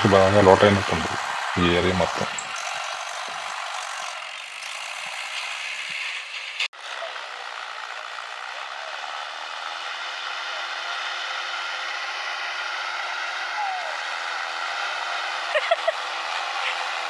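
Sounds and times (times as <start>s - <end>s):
diesel tractor engine under load: 0.0s - 6.7s, 7.4s - 17.0s.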